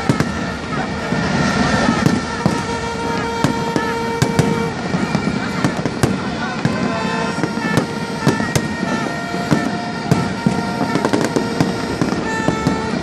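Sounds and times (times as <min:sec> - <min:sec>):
fireworks bangs and crackles: 0:00.0 - 0:13.0
rumble of distant bursts: 0:00.0 - 0:13.0.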